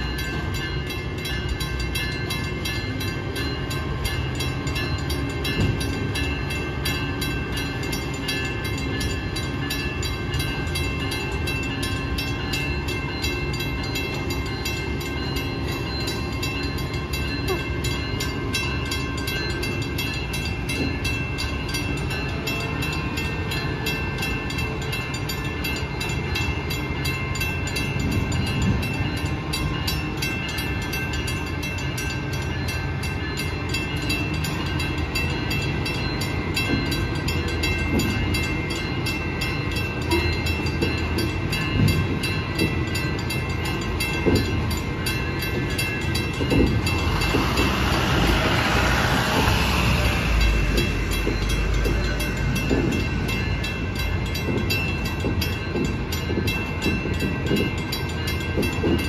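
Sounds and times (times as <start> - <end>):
crossing warning bell ringing: 0.0 - 59.0
train wheels rumbling on rails: 0.0 - 59.0.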